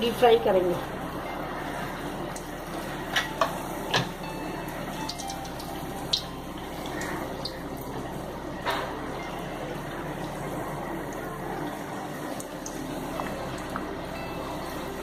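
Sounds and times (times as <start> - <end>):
deep-frying oil sizzling: 0.0 - 15.0.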